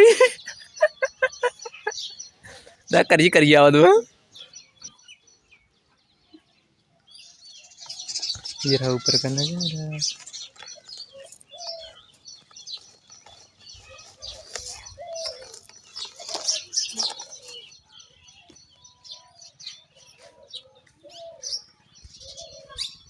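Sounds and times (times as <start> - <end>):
birds chirping chorus: 0.0 - 23.0.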